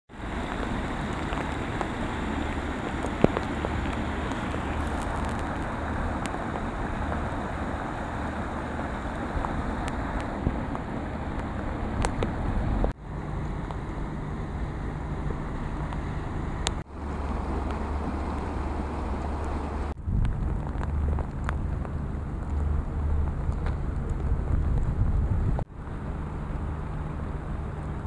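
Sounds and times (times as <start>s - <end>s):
floodwater rushing: 0.1s - 28.0s
wind buffeting microphone: 0.2s - 13.0s, 14.6s - 25.7s.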